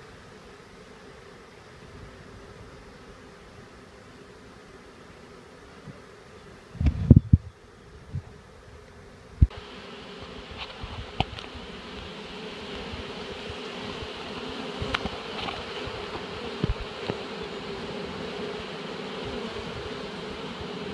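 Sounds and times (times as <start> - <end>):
bees buzzing: 0.0 - 20.9.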